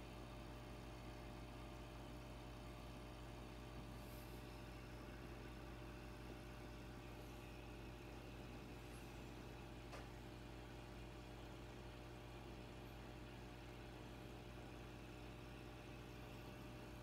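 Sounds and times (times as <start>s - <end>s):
aquarium equipment hum: 0.0s - 17.0s.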